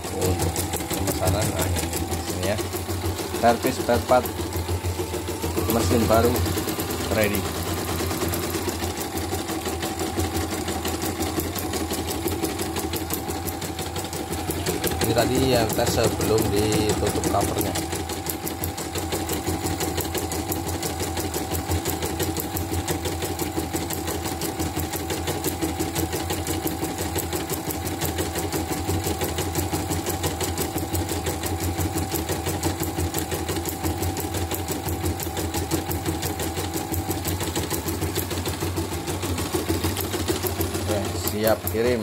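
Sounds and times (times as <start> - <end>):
embroidery machine stitching: 0.0 - 42.0.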